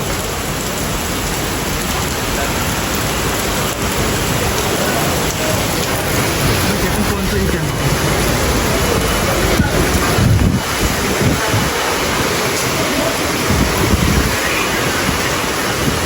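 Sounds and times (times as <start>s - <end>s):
heavy rain pouring: 0.0s - 16.0s
wind buffeting microphone: 0.0s - 16.0s.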